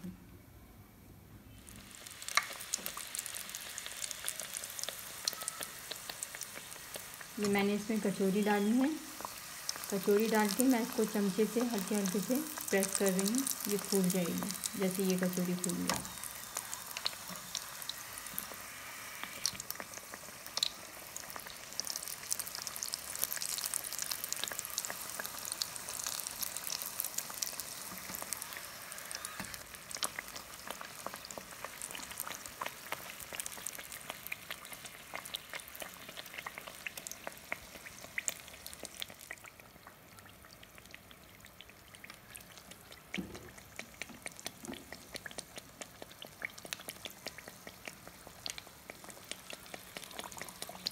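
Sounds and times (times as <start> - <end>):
oil sizzling and popping: 1.5 - 50.9.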